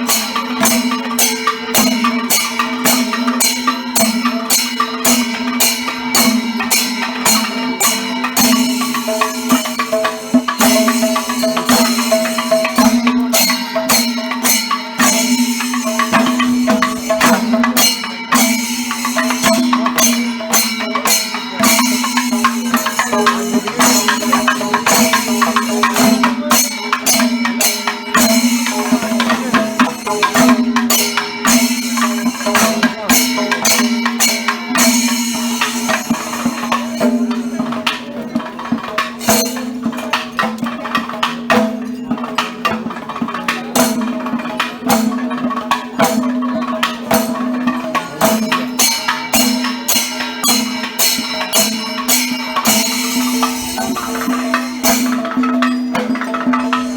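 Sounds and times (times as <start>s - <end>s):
drums and hand percussion: 0.0s - 56.9s.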